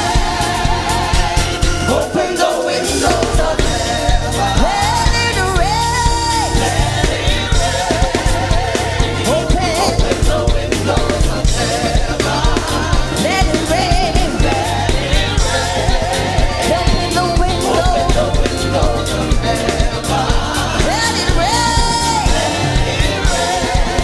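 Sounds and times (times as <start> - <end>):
gospel group singing with band: 0.0 - 24.0
solo voice singing: 0.0 - 24.0.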